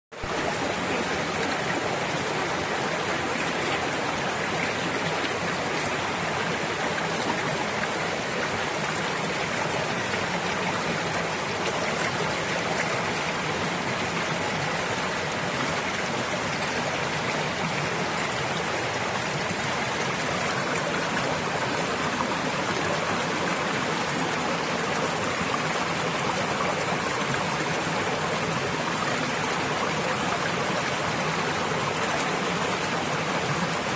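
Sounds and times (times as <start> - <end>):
stream water running: 0.1 - 33.9.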